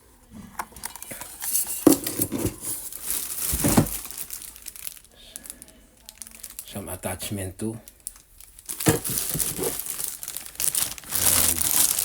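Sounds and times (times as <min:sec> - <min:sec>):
packaging crinkling and rustling: 0:00.5 - 0:12.0.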